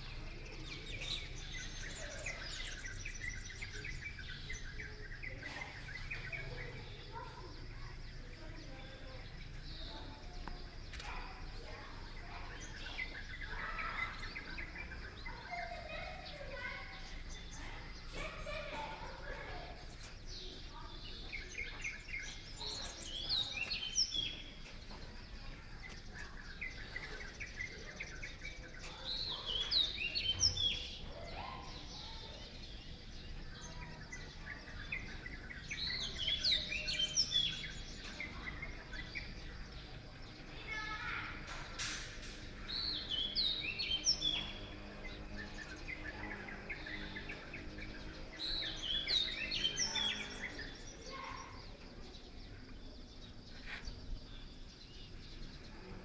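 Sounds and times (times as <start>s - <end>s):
faint bird chirps: 0.0s - 56.0s
low background noise: 0.0s - 56.0s
songbird singing: 0.0s - 56.0s.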